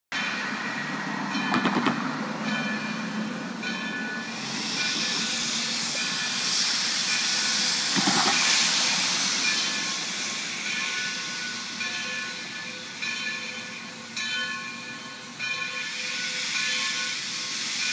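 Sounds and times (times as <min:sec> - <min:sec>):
steam locomotive hissing steam: 0:00.2 - 0:17.9.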